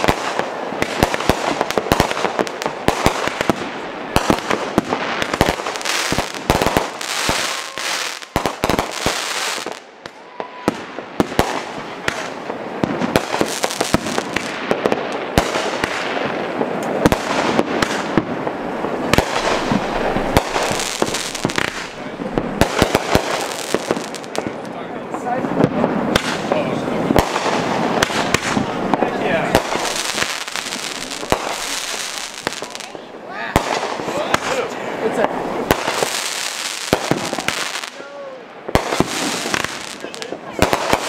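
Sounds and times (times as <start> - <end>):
fireworks bangs and pops: 0.0 - 41.0.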